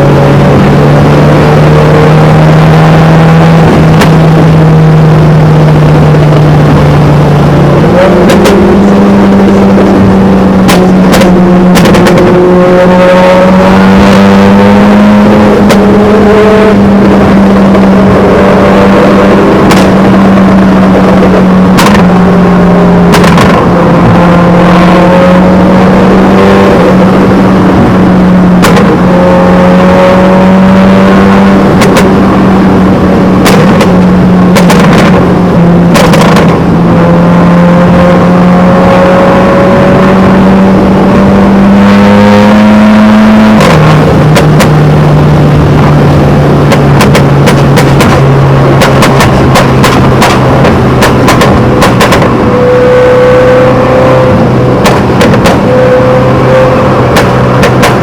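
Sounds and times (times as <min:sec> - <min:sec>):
car exhaust droning: 0:00.0 - 0:58.0.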